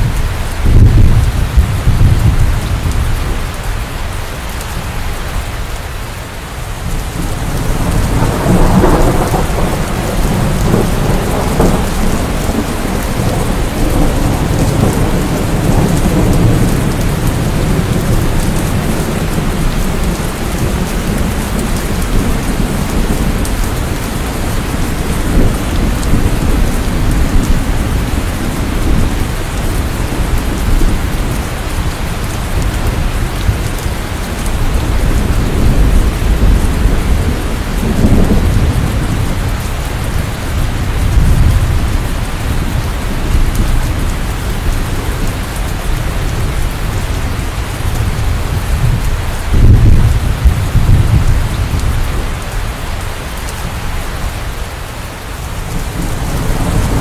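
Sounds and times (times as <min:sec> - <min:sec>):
rolling thunder: 0:00.0 - 0:03.6, 0:06.8 - 0:53.0, 0:55.5 - 0:57.0
steady rain: 0:00.0 - 0:57.0.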